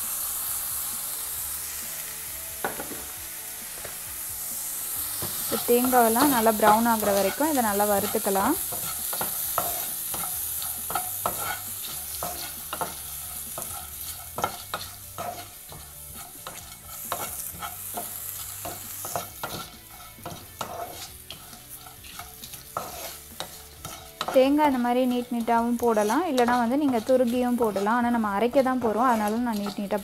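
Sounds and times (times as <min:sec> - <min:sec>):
light sizzle: 0:00.0 - 0:30.0
wooden spatula scraping a pan: 0:05.1 - 0:30.0.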